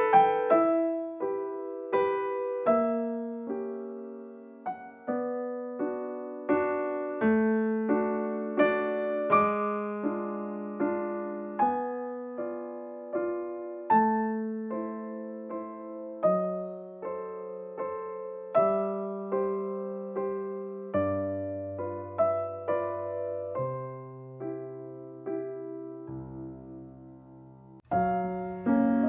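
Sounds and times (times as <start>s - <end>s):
slow gentle piano melody: 0.0s - 29.0s.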